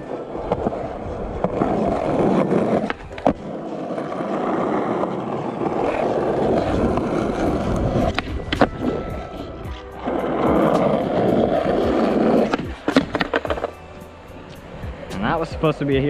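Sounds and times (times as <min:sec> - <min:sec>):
skateboard wheels rolling on asphalt: 0:00.0 - 0:16.0.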